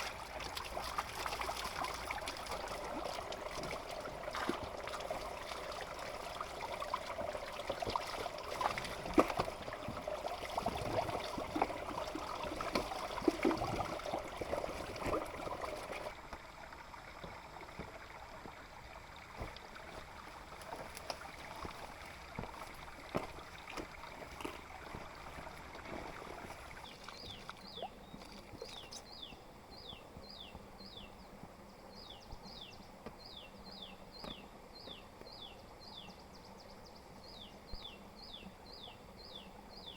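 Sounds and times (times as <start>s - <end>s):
water trickling and splashing: 0.0s - 35.4s.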